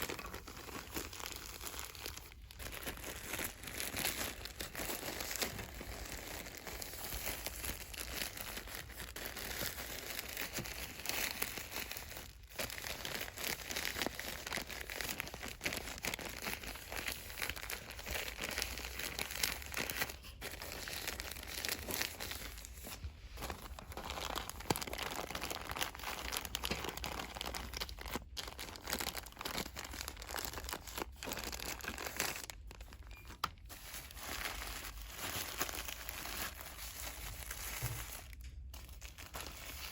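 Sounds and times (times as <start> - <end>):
plastic packaging crinkling: 0.0 - 39.9.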